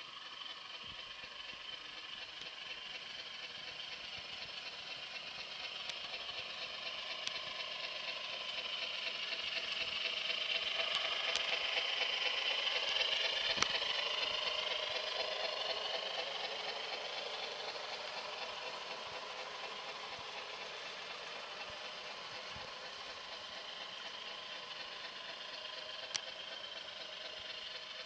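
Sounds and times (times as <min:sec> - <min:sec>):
model train wheels rattling: 0:00.0 - 0:28.0.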